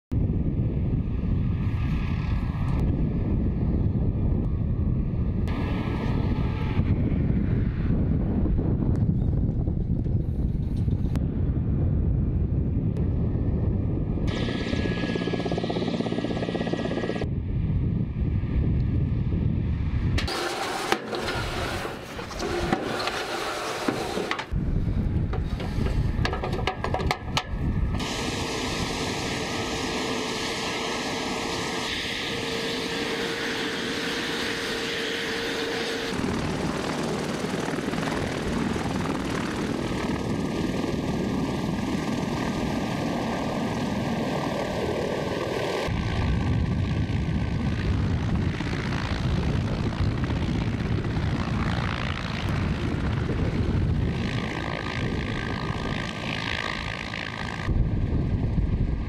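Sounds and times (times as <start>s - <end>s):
helicopter rotor and engines: 0.1s - 59.0s.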